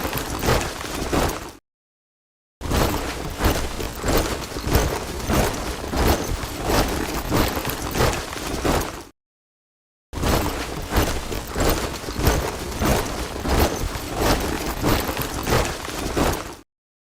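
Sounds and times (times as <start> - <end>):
soldiers marching in step: 0.0 - 1.6, 2.8 - 9.1, 10.4 - 16.6.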